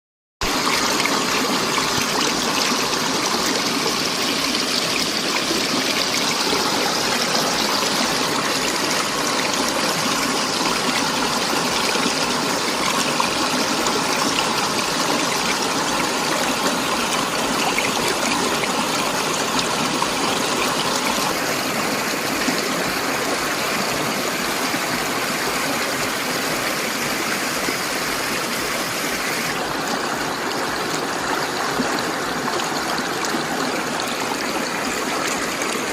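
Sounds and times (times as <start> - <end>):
river water rushing: 0.4 - 35.9.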